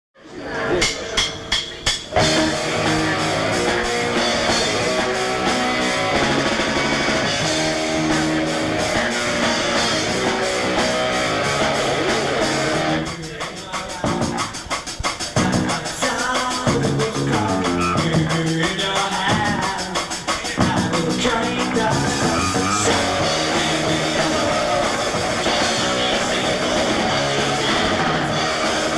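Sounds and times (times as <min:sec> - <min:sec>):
drum kit: 0:00.6 - 0:28.9
electric guitar: 0:02.1 - 0:13.2, 0:14.0 - 0:28.9.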